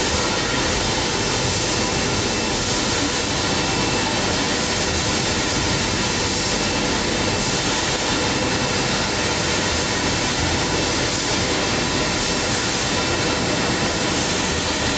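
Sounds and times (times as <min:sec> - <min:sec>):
bottle labeling machine running: 0:00.0 - 0:14.9.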